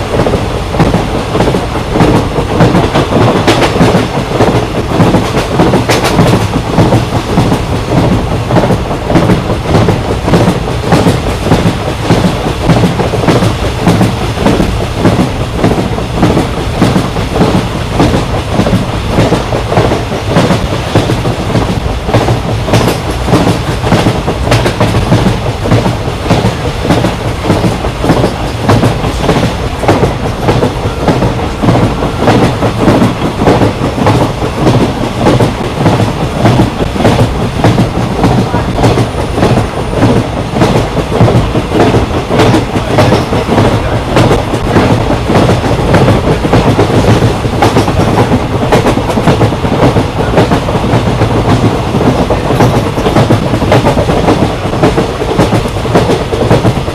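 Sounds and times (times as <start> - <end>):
train wheels rumbling on rail: 0.0 - 56.9
wheels clacking over rail joints: 0.0 - 56.9.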